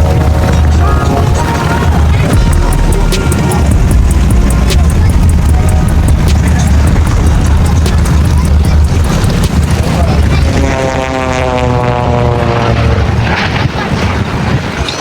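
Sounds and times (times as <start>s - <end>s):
steady low rumble: 0.0s - 14.9s
propeller airplane flying past: 0.0s - 15.0s.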